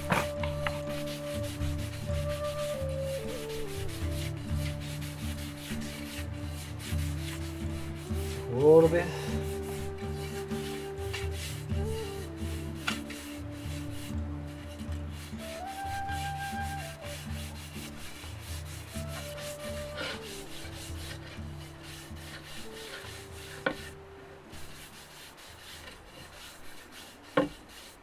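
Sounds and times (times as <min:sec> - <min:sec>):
quiet background music: 0:00.0 - 0:28.0
rubbing strokes on wooden hoop: 0:00.0 - 0:28.0.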